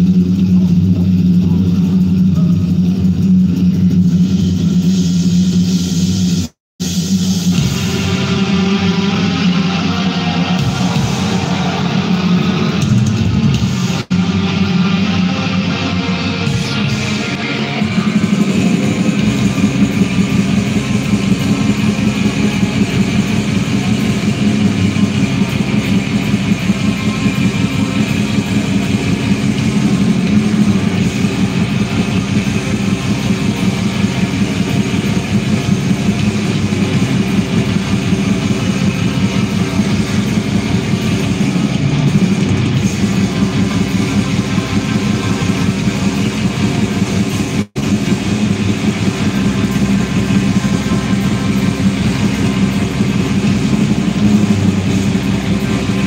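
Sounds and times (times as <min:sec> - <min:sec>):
distorted electric guitars: 0:00.0 - 0:56.0
drums: 0:00.0 - 0:56.0.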